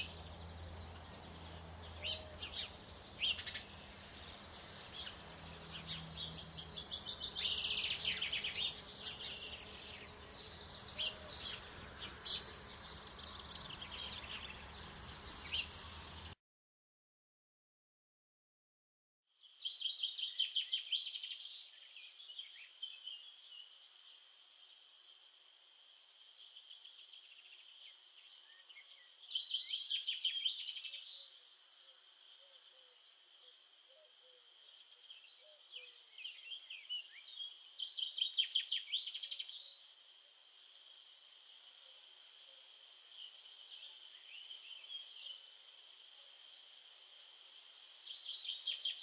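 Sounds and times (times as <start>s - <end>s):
chorus of birdsong: 0.0s - 16.4s, 19.3s - 49.0s.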